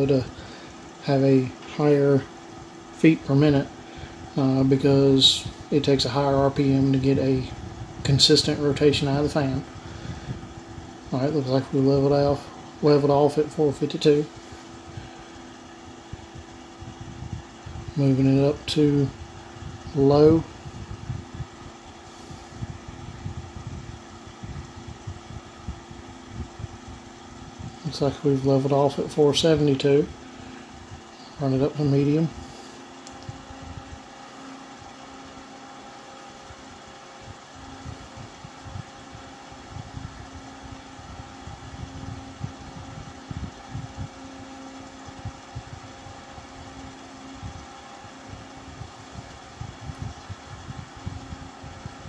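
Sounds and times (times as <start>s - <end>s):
computer fan whirring: 0.0s - 52.0s.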